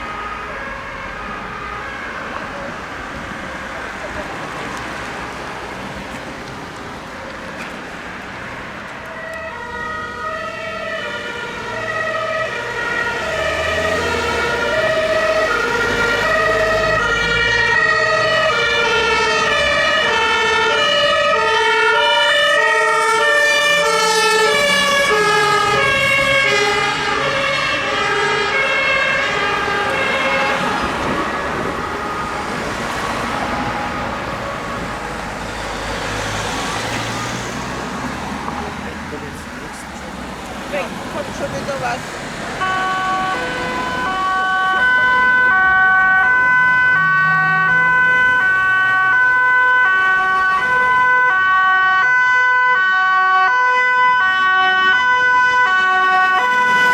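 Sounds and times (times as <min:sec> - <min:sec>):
two-tone emergency vehicle siren: 0:00.0 - 0:39.8, 0:40.6 - 0:56.9
vehicle engine rumble: 0:00.0 - 0:53.1.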